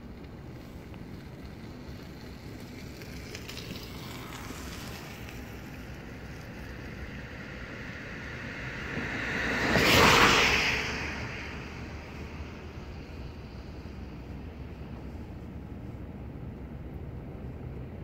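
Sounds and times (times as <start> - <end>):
distant train rumble: 0.0 - 18.0.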